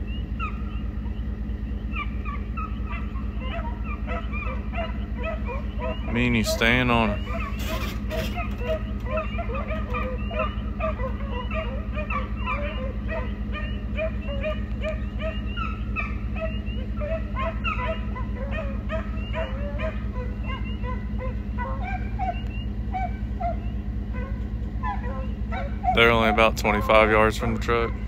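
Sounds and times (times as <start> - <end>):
hounds baying: 0.0 - 28.0
steady low hum: 0.0 - 28.0.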